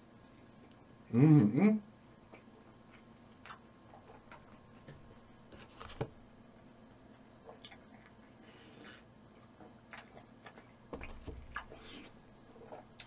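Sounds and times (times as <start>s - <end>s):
eating and handling noises: 0.0s - 1.1s, 2.2s - 13.0s.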